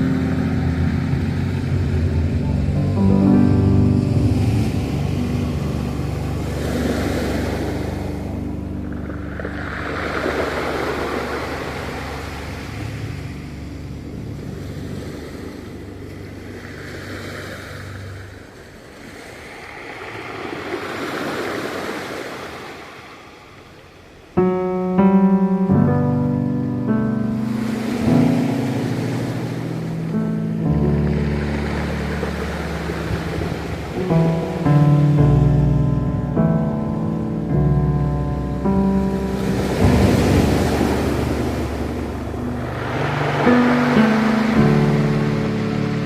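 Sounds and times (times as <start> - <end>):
calm background music: 0.0 - 19.1, 24.4 - 46.0
ocean waves washing ashore: 0.0 - 46.0.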